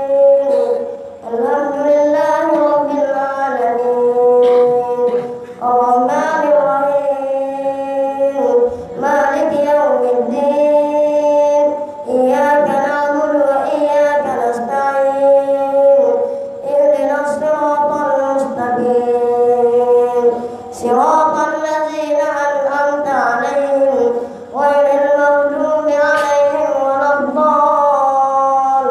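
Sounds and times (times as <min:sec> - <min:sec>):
boy chanting melodically: 0:00.0 - 0:28.9.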